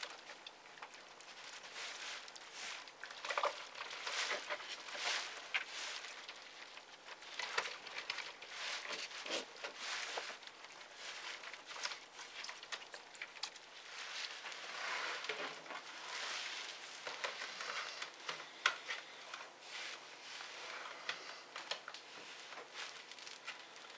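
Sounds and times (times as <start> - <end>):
light scraping and rustling: 0.0 - 23.9.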